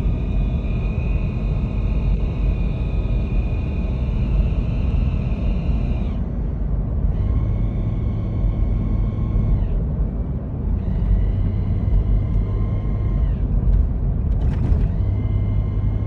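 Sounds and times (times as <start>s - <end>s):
transmission whining: 0.0s - 9.9s, 10.7s - 16.0s
low drivetrain rumble: 0.0s - 16.0s.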